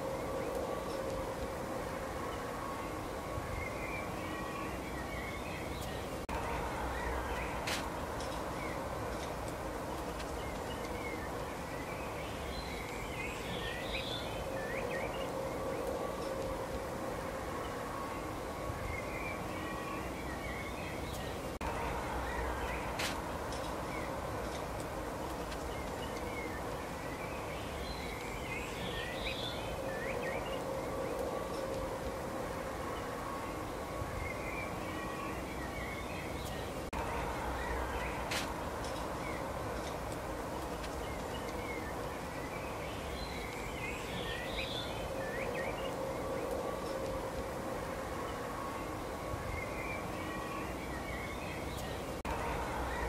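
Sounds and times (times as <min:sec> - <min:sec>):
background hiss: 0:00.0 - 0:53.0
faint steady hum: 0:00.0 - 0:53.0
songbirds chirping: 0:00.0 - 0:53.0.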